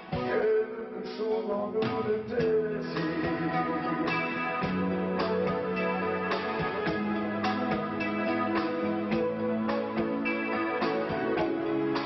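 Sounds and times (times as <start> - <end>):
guitar chords: 0.0 - 12.0
rock band ballad instrumental: 1.4 - 12.0.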